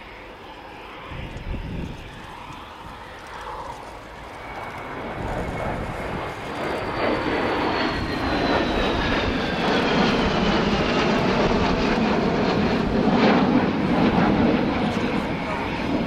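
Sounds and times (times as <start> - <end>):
high jet whine: 0.0 - 16.0
jet roar: 0.0 - 16.0.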